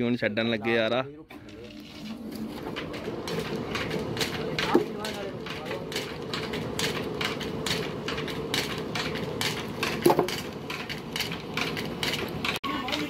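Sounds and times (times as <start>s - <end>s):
rapid regular knocking: 2.0s - 13.0s.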